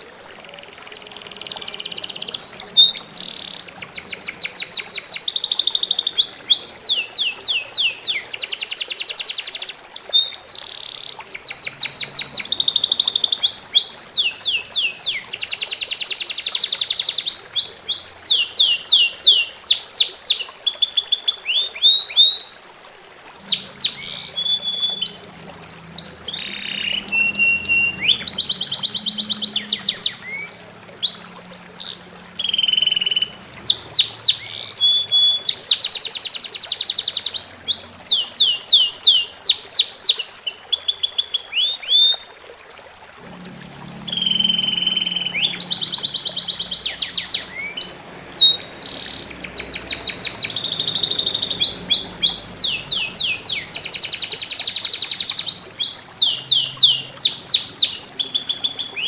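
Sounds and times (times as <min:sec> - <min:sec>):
songbird singing: 0:00.0 - 0:22.6, 0:23.4 - 0:42.4, 0:43.2 - 0:59.0
faint trickling water: 0:00.0 - 0:59.0.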